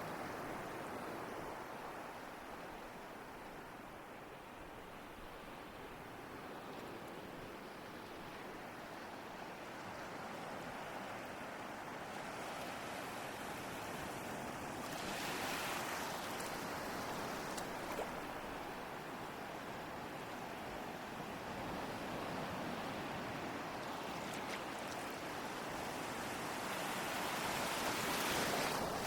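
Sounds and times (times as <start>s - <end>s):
ocean waves washing ashore: 0.0s - 29.0s.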